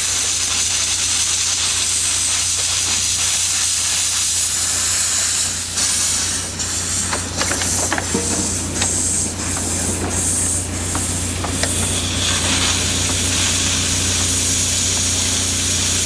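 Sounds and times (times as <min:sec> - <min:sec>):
jet of steam and water spraying: 0:00.0 - 0:16.0
steam locomotive hissing: 0:00.0 - 0:16.0.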